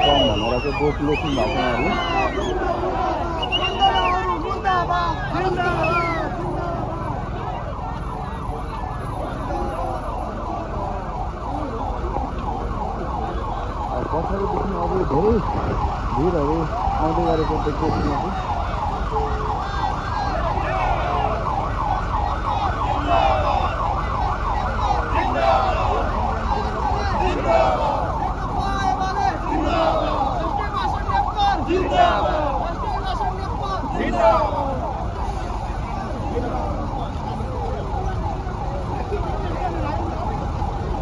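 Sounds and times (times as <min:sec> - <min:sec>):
marching crowd rumble: 0:00.0 - 0:41.0
road traffic: 0:00.0 - 0:41.0
siren warbling: 0:00.0 - 0:41.0.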